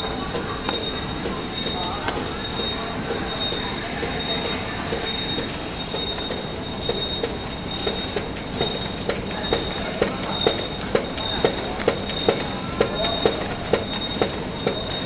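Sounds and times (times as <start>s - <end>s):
machinery hum and whine: 0.0s - 15.0s.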